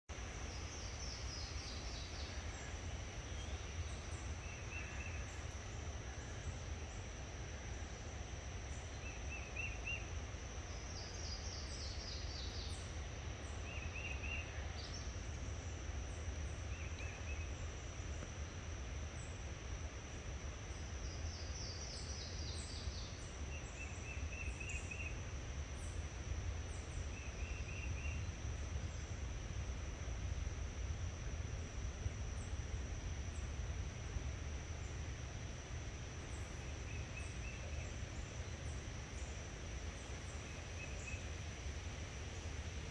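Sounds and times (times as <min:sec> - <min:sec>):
high insect drone: 0:00.1 - 0:42.9.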